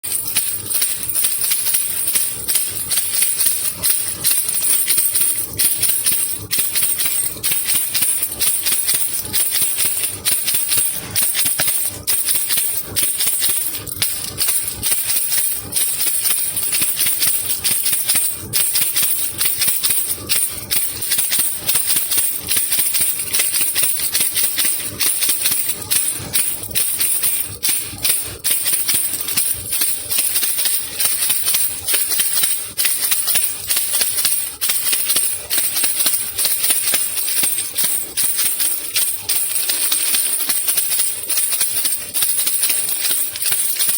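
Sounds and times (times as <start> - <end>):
baby rattle shaking: 0.0 - 43.9.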